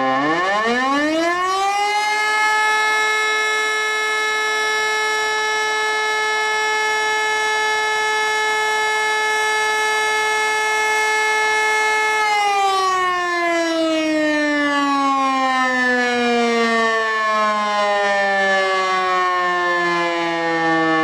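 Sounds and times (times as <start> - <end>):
civil defence siren: 0.0 - 21.0.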